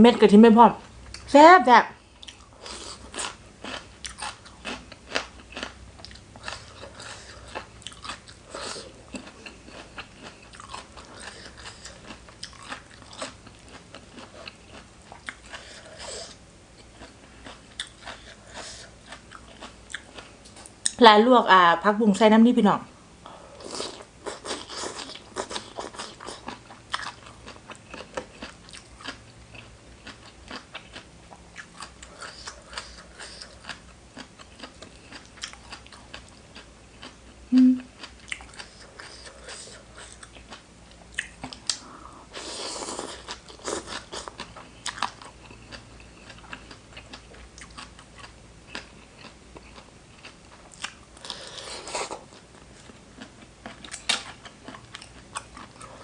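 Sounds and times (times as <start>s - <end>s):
crunching and wet chewing: 2.0s - 21.0s, 23.6s - 37.4s, 38.0s - 56.0s.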